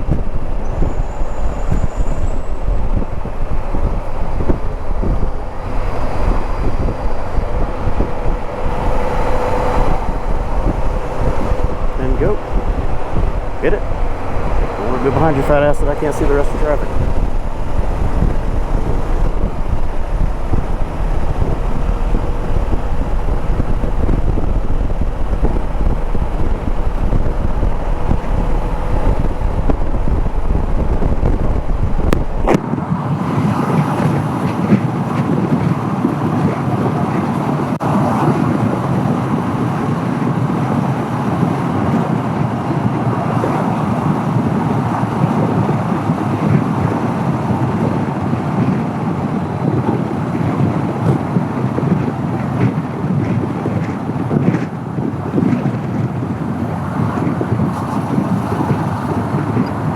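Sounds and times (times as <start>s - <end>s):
motorcycle engine rumble: 0.0s - 59.9s
wind rushing over microphone: 0.0s - 59.9s.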